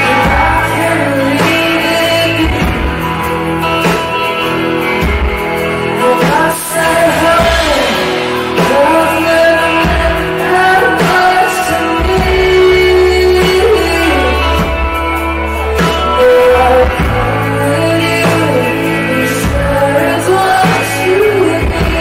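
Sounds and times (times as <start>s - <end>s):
woman singing into microphone: 0.0s - 4.0s, 5.7s - 22.0s
guitar: 0.0s - 22.0s
low bass: 0.0s - 22.0s.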